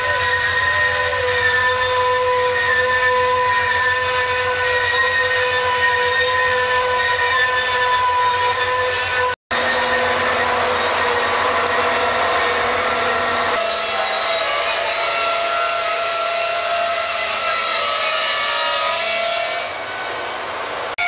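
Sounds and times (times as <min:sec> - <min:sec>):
train brakes squealing: 0:00.0 - 0:21.0.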